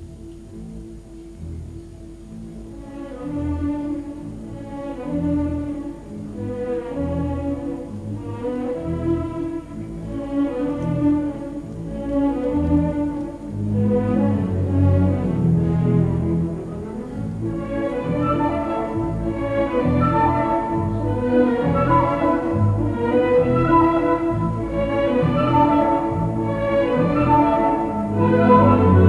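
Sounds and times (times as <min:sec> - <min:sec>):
bowed strings slow melody: 0:00.0 - 0:29.0.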